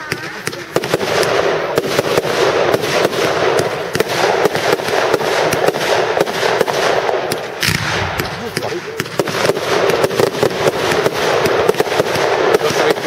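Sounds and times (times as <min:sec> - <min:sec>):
fireworks crackling: 0:00.0 - 0:13.0
fireworks cracks: 0:00.0 - 0:13.0.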